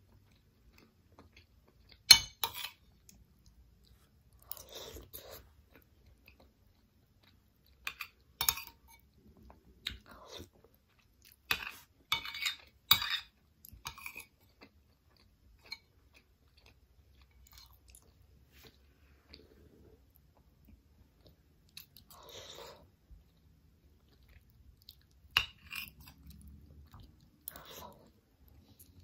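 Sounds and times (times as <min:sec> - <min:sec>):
wet chewing and mouth sounds: 0:00.0 - 0:29.0.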